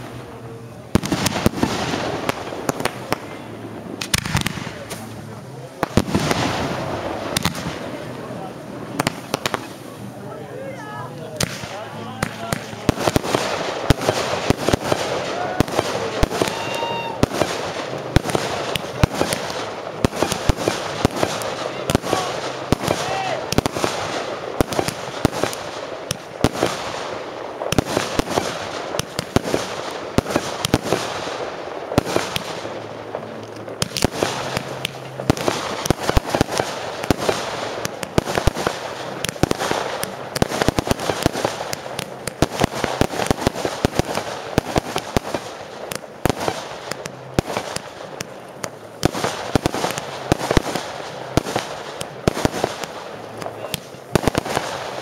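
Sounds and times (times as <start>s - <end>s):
fireworks bangs: 0.0s - 10.3s, 11.3s - 55.0s
fireworks crackle: 0.0s - 55.0s.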